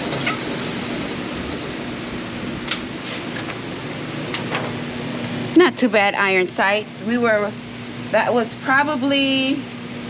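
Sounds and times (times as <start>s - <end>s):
ventilation hiss and hum: 0.0s - 10.0s.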